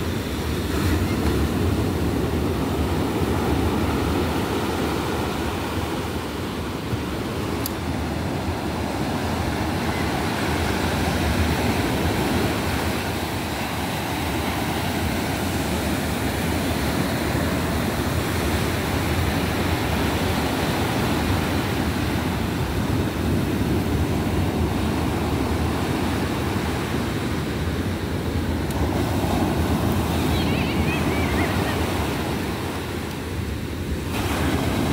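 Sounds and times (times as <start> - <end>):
surf breaking on beach: 0.0 - 34.9.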